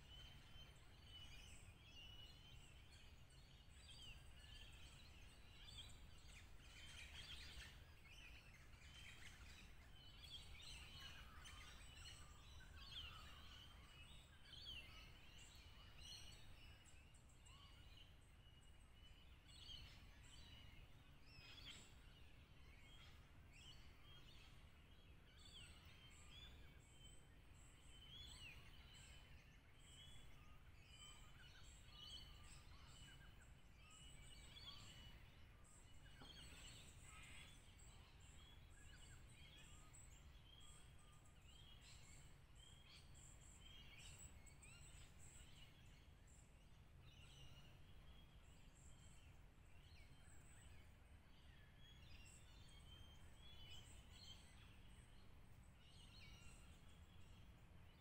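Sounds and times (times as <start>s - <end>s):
small bird calls: 0.0s - 58.0s.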